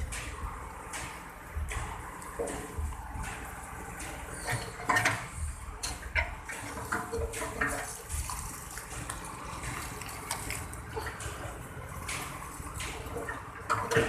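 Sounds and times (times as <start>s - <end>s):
backhoe knocks and clanks: 0.0s - 14.0s
backhoe rumbling: 0.0s - 14.0s.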